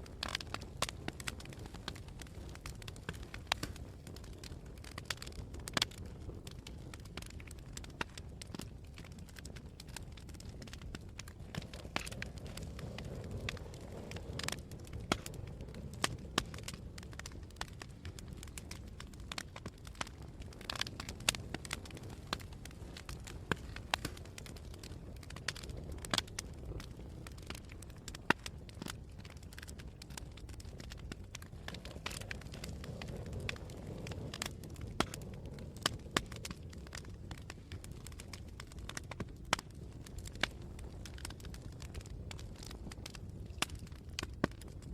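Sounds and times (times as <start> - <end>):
campfire crackling and popping: 0.0 - 44.9
low fire rumble: 0.0 - 44.9.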